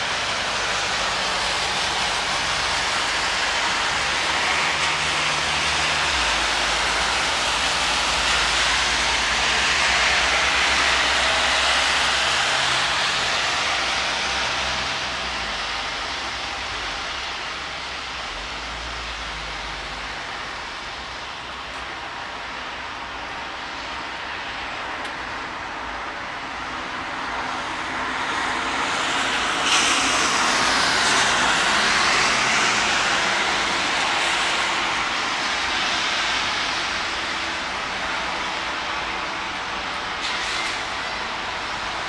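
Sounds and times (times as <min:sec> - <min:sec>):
tyres hissing on wet road: 0:00.0 - 0:42.0.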